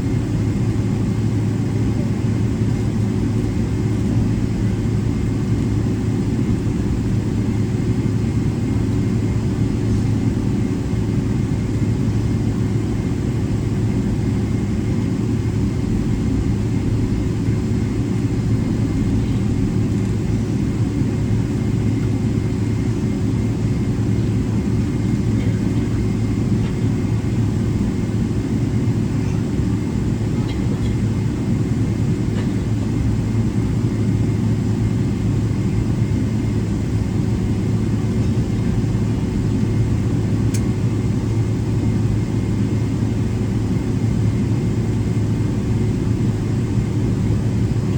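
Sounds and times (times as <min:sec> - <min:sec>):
airplane cabin low rumble: 0:00.0 - 0:47.9
steady hums: 0:02.6 - 0:42.7.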